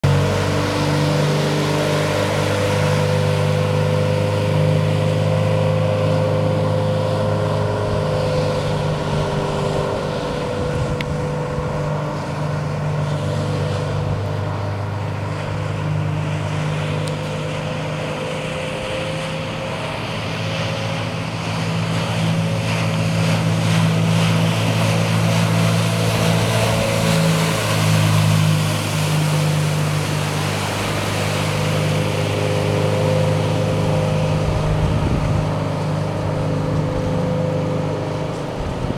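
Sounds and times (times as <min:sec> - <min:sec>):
boat engine running: 0:00.0 - 0:38.9
water rushing along hull: 0:00.0 - 0:38.9
wind: 0:00.0 - 0:38.9.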